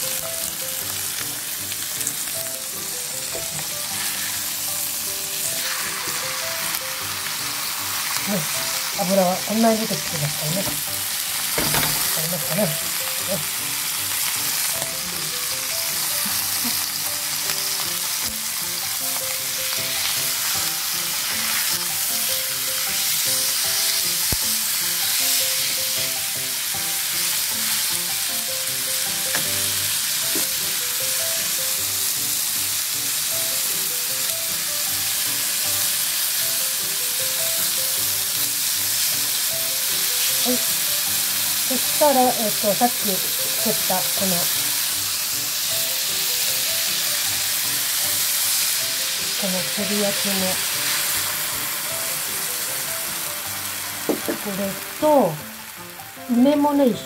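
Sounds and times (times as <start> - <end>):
chicken sizzling in a frying pan: 0.0 - 57.0.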